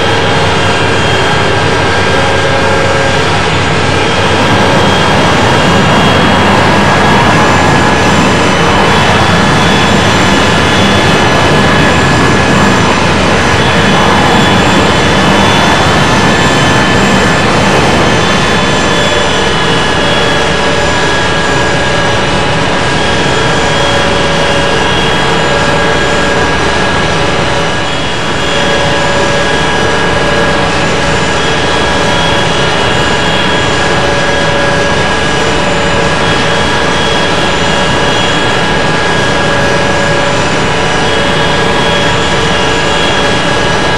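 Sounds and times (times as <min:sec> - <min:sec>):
jet engines roaring in cabin: 0:00.0 - 0:43.9.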